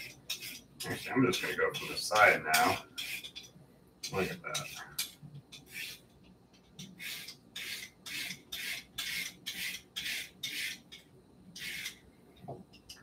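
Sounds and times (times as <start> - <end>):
vegetable peeler scraping: 0.0 - 6.1, 6.8 - 12.0.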